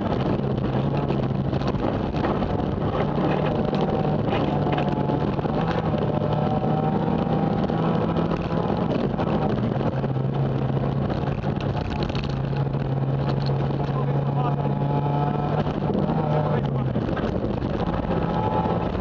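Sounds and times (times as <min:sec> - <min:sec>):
gravel and road noise rattling: 0:00.0 - 0:19.0
rally car engine running hard: 0:00.0 - 0:19.0.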